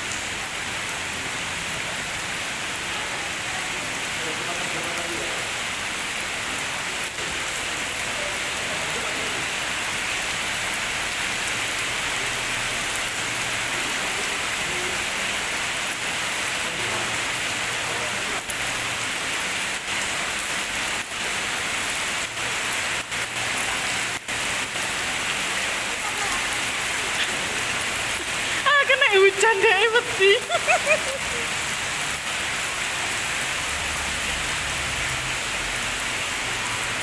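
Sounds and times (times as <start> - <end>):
rain falling on pond water: 0.0 - 37.0.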